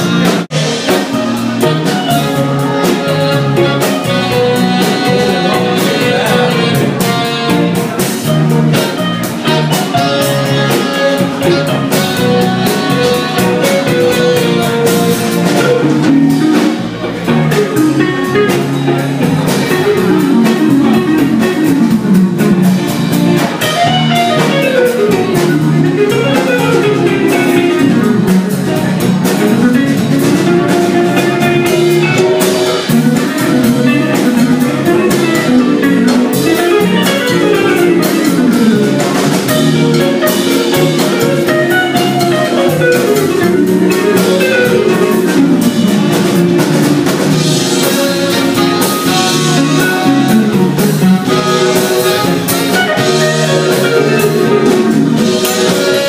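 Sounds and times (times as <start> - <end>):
drum kit beat: 0.0 - 56.0
live soul band playing: 0.0 - 56.0.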